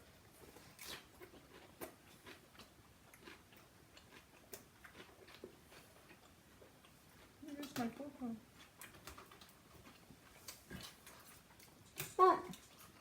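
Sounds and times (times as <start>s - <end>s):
person chewing food: 0.0s - 7.7s, 8.5s - 13.0s.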